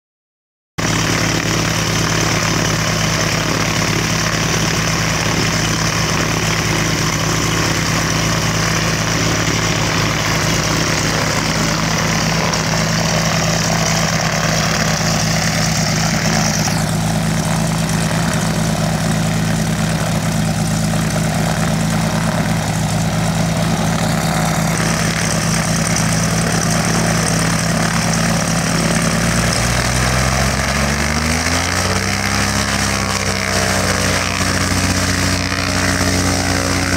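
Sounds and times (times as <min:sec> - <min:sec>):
propeller airplane engine idling: 0:00.8 - 0:36.9.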